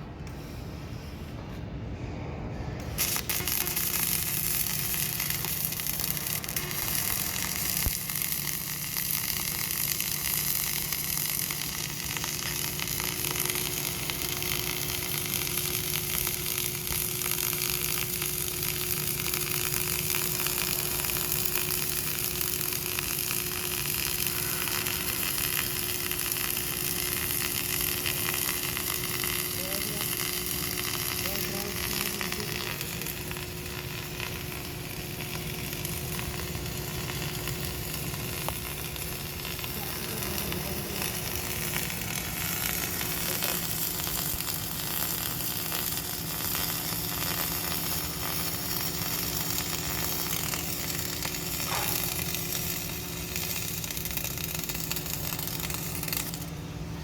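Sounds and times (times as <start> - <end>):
welding arc crackling and sizzling: 2.8 - 57.0.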